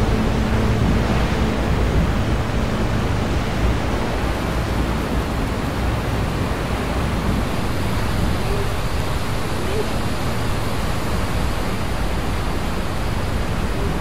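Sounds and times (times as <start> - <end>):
whitewater rushing around kayak: 0.0 - 14.0.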